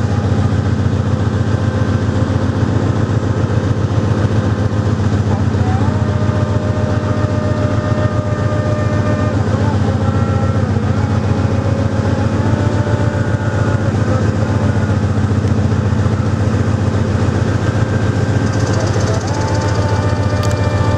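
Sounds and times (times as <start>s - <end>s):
diesel locomotive engine idling: 0.0s - 20.9s.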